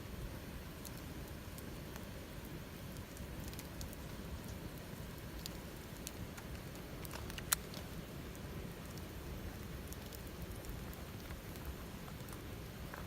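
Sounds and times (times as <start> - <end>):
fire rumble: 0.0 - 13.0
wood fire crackling: 0.0 - 13.0.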